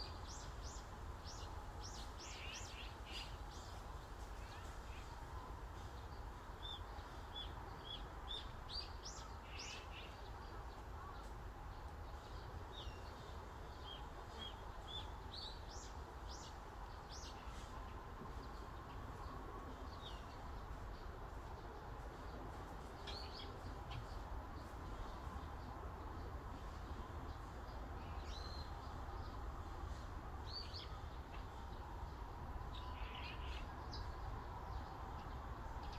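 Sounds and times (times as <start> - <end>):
steady breeze: 0.0 - 35.9.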